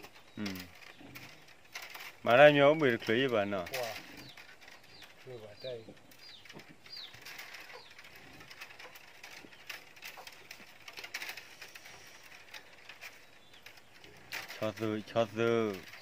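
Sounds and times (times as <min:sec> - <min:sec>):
bamboo strips clicking: 0:00.0 - 0:16.0
bird chirping: 0:00.0 - 0:16.0.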